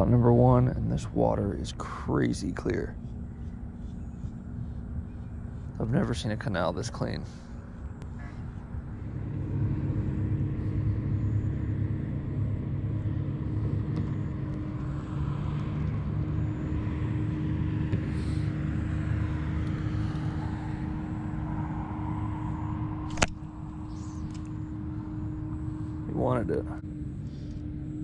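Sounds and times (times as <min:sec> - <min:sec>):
constant hum: 0:00.0 - 0:28.0
traffic rumble: 0:00.0 - 0:28.0
vehicles passing: 0:00.0 - 0:28.0.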